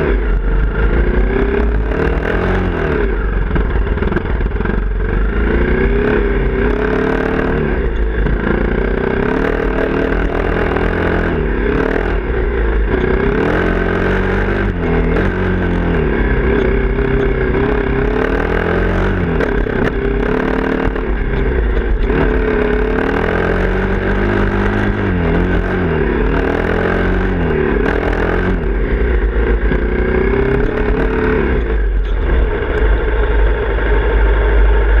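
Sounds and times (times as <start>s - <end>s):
clatter over bumps: 0.0s - 35.0s
motorcycle engine revving: 0.0s - 35.0s
wind rumble on microphone: 0.0s - 35.0s.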